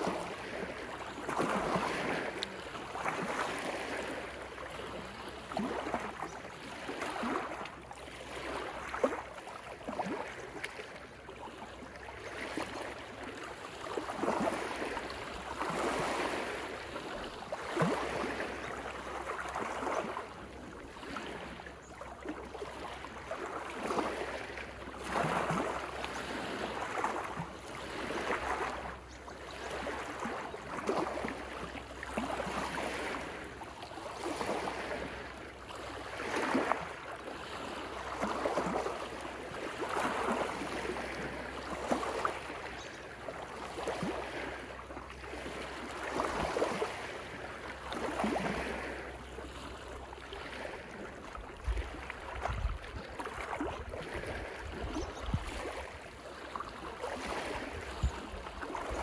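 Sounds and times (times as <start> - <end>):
small waves lapping over rocks: 0.0 - 59.0.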